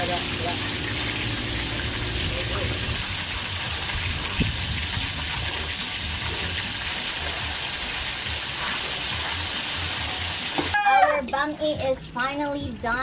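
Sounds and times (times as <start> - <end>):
noodles sizzling and bubbling: 0.0 - 13.0.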